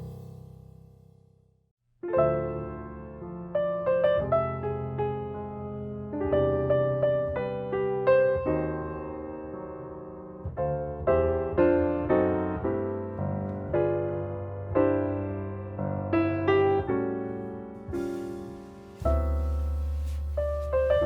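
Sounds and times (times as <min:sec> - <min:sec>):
piano music: 0:00.0 - 0:00.6, 0:02.0 - 0:21.0.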